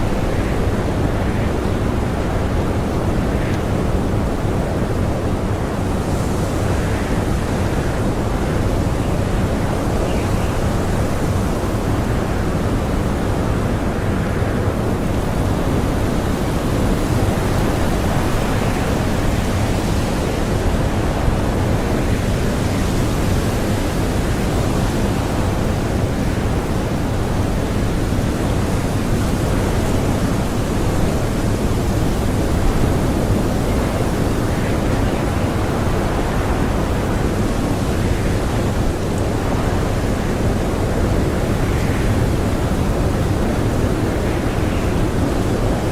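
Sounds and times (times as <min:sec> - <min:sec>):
blizzard wind blowing hard: 0:00.0 - 0:45.9.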